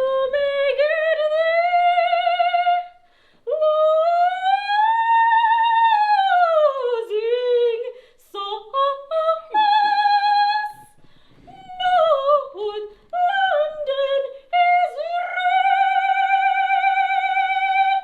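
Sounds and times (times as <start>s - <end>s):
woman singing operatically: 0.0s - 18.0s.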